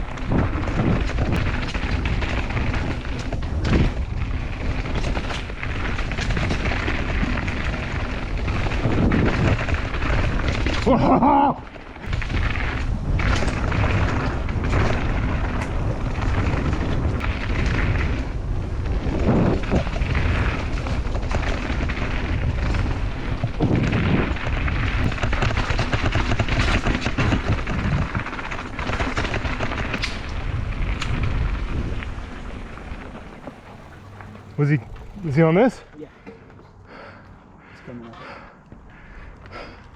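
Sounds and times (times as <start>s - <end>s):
mountain bike rattling over dirt: 0.0s - 37.3s
wind buffeting microphone: 0.0s - 39.9s.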